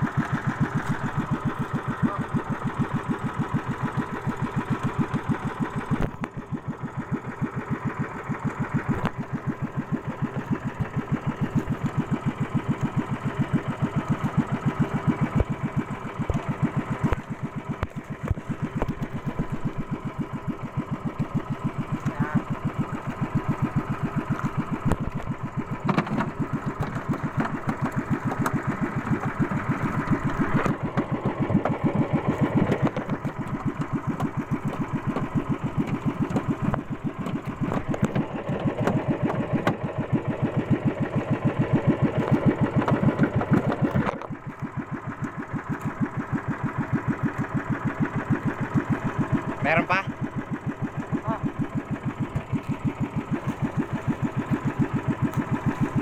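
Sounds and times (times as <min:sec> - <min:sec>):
boat engine chugging: 0:00.0 - 0:56.0.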